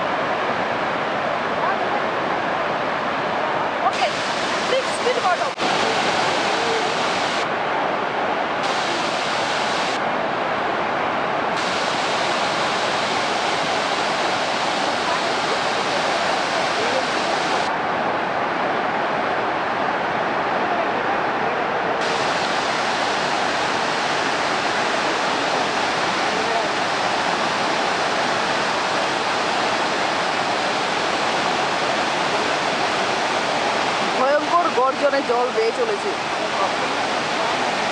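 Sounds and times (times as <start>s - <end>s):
waterfall rushing over rock: 0.0s - 37.9s.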